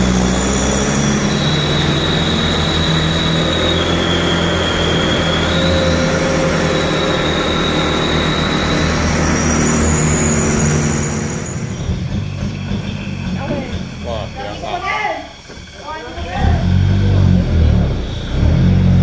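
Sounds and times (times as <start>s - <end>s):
diesel truck engine under load: 0.0s - 19.0s
steady high whine: 0.0s - 19.0s.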